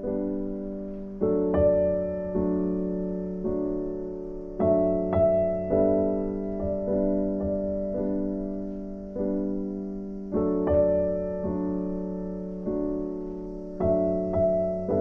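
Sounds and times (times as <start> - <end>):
slow gentle solo piano: 0.0 - 15.0.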